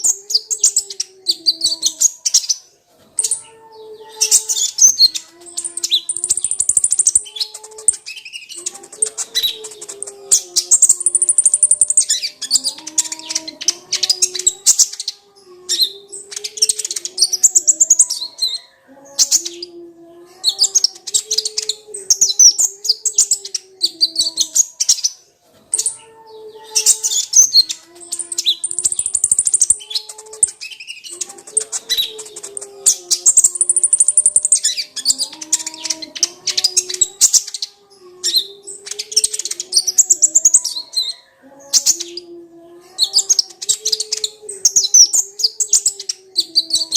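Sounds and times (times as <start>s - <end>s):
sunbird twittering song: 3.2s - 19.8s, 20.5s - 42.3s.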